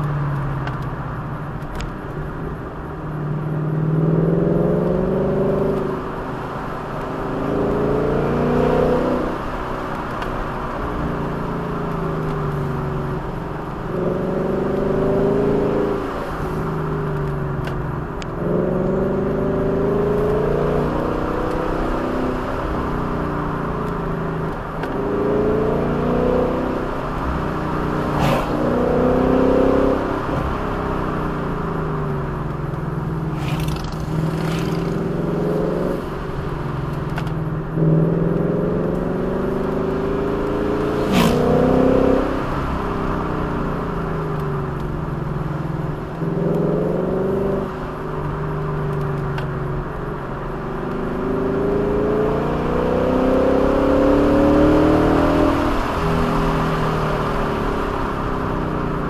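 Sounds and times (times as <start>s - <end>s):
road and wind noise: 0.0s - 59.0s
vehicle engine accelerating: 0.0s - 59.0s.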